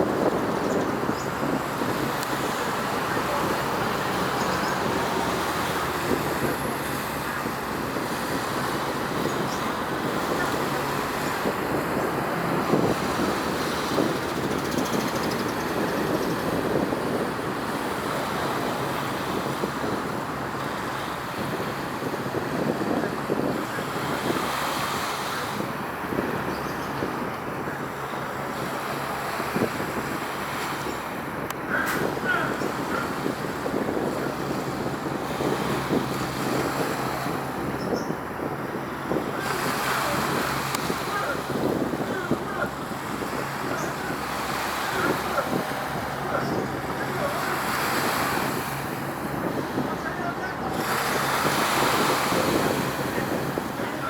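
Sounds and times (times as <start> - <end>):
road traffic hum: 0.0 - 54.0
wind on microphone: 0.0 - 54.0.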